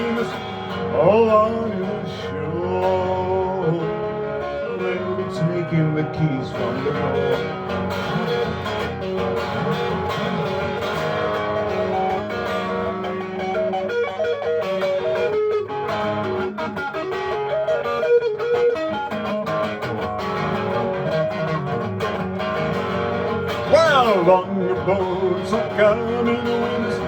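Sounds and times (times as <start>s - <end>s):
guitar playing: 0.0s - 27.0s.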